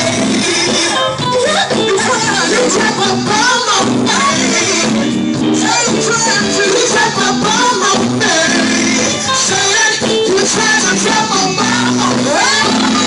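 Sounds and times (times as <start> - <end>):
gospel music with singing: 0.0 - 13.0.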